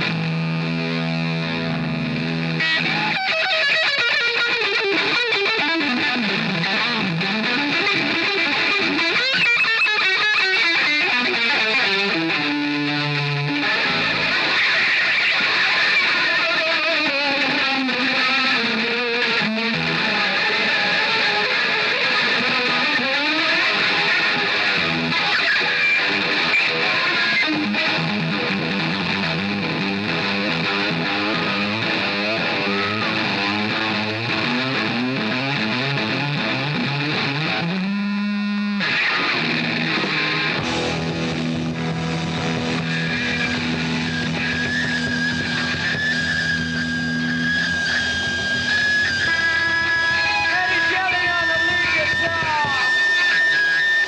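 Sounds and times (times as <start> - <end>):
distorted electric guitar solo: 0.0 - 54.0.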